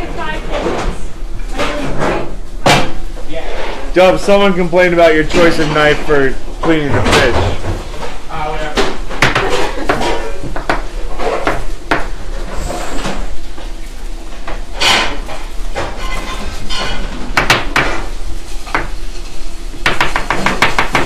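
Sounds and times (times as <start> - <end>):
pans and utensils clanking: 0.0 - 21.0.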